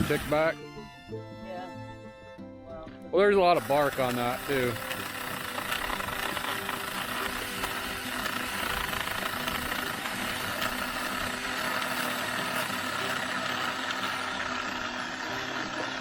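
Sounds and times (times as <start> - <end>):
chainsaw cutting log: 0.0 - 0.6, 3.3 - 16.0.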